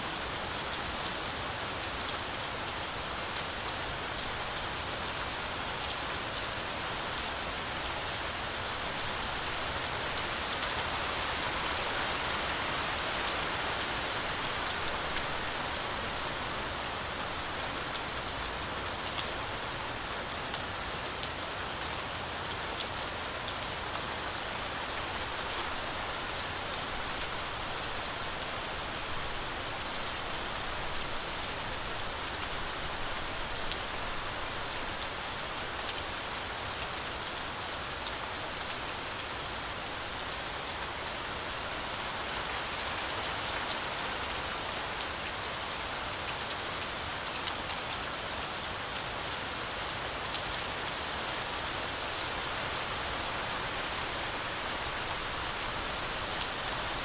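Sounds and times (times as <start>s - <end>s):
heavy rain on forest canopy: 0.0s - 57.0s.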